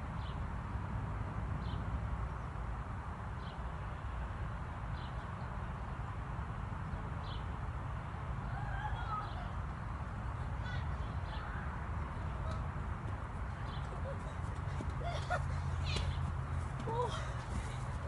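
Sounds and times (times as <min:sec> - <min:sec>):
low wind rumble on microphone: 0:00.0 - 0:18.0.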